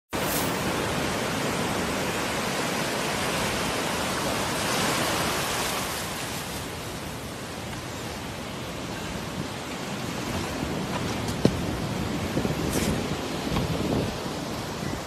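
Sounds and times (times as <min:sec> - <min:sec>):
ocean waves breaking: 0:00.2 - 0:15.0.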